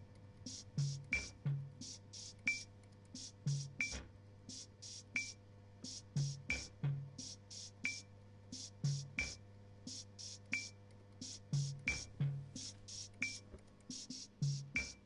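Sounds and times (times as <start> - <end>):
steady low hum: 0.0 - 15.0
hissy cymbal strokes: 0.5 - 8.0, 8.6 - 15.0.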